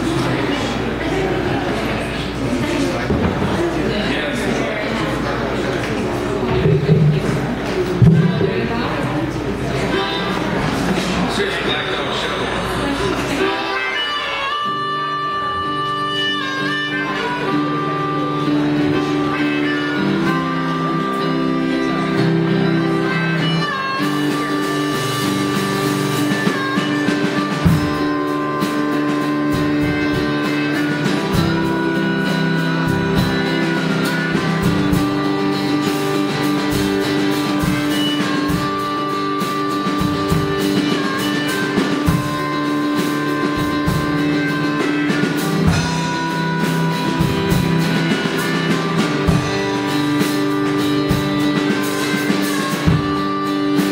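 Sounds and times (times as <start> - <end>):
harmonica bending notes: 0.0 - 53.9
strummed guitar shuffle rhythm: 0.0 - 53.9.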